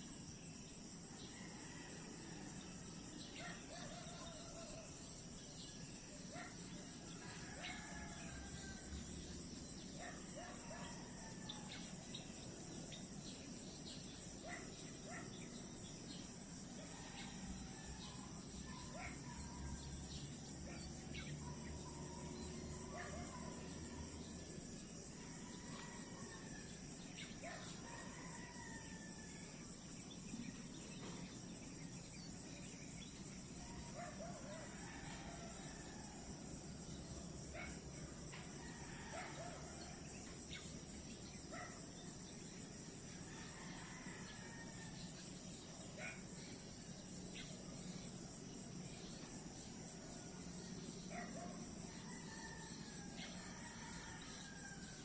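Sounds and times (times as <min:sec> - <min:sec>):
crickets chorus: 0:00.0 - 0:55.0.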